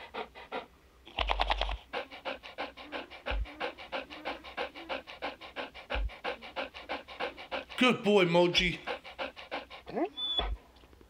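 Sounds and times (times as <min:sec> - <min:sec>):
cartoon dog panting: 0:00.0 - 0:10.7.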